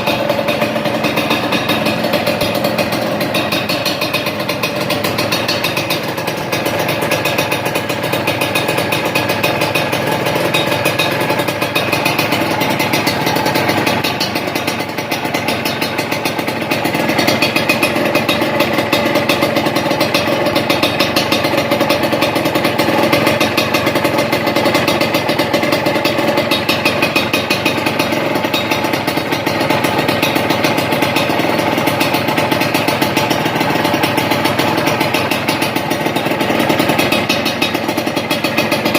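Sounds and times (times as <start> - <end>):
two-stroke motorcycle engine idling: 0.0 - 38.9.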